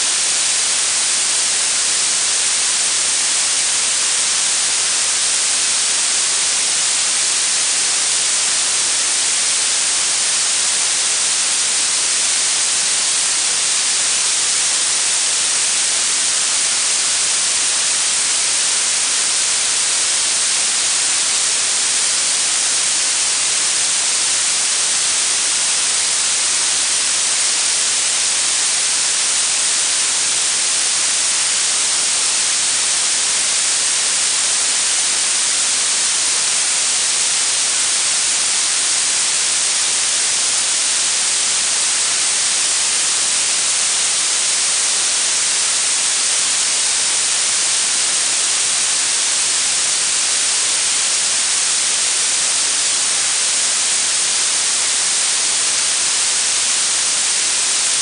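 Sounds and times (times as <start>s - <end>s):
bright steady hiss: 0.0s - 58.0s.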